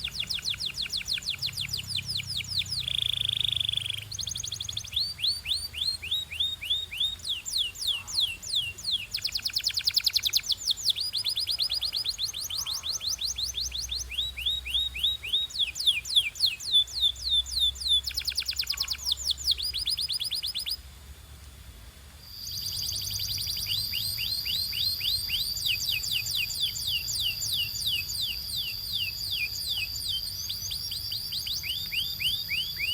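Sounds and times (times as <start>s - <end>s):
canary singing: 0.0s - 20.8s, 22.2s - 32.9s.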